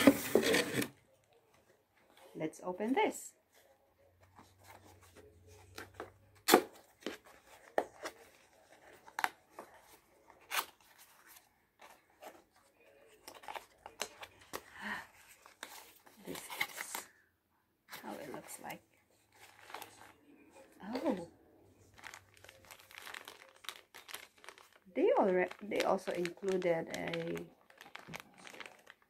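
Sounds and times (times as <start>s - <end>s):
packaging rustling: 0.0s - 1.2s, 4.3s - 17.2s, 17.9s - 21.2s, 21.8s - 29.0s.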